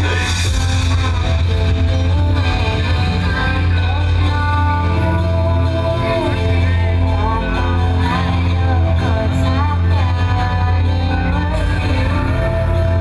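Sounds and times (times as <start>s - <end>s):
loud music with heavy bass: 0.0s - 13.0s
person singing: 0.0s - 13.0s.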